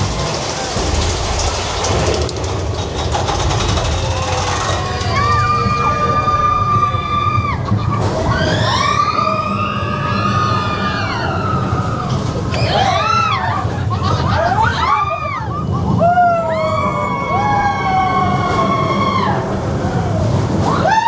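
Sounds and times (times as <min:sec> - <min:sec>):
riders screaming and whooping: 0:00.0 - 0:21.0
roller coaster train rumble: 0:00.0 - 0:21.0.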